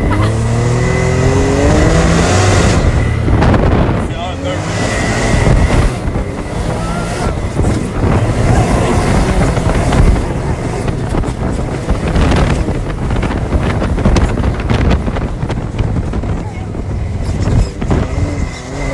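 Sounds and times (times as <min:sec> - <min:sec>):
vehicle engine and tyre rumble: 0:00.0 - 0:18.9
wind buffeting microphone: 0:00.0 - 0:18.9.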